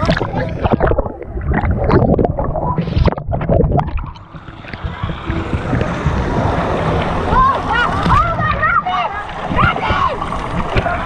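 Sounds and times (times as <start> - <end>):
underwater crackles: 0.0 - 11.0
water gurgling and sloshing: 0.0 - 11.0
water splashing: 0.0 - 11.0.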